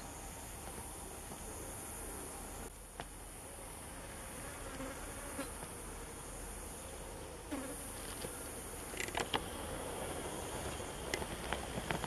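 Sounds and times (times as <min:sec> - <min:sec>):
insect buzzing past: 0:00.0 - 0:12.0.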